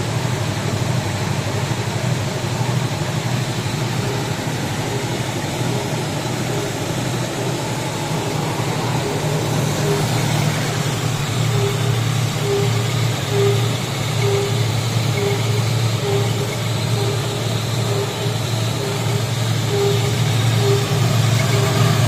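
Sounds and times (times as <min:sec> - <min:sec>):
machine motor hum: 0:00.0 - 0:22.0.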